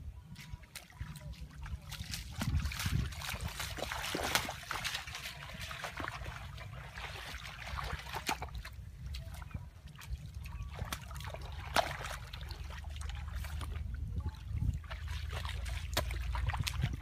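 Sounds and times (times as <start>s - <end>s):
feet splashing through water: 0.3s - 17.0s.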